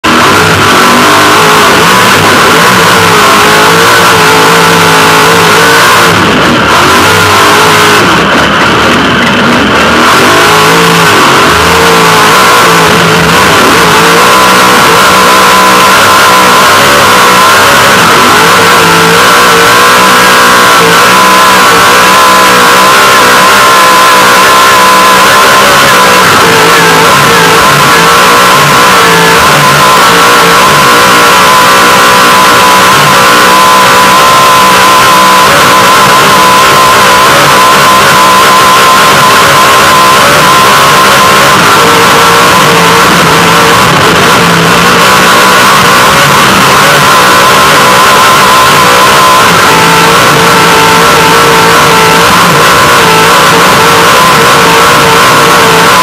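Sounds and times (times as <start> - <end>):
race truck engine running loud: 0.0 - 56.0
steady high whine: 0.0 - 56.0.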